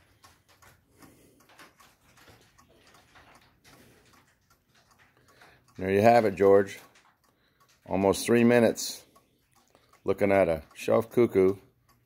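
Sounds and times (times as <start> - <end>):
clock ticking faintly: 0.0 - 12.0.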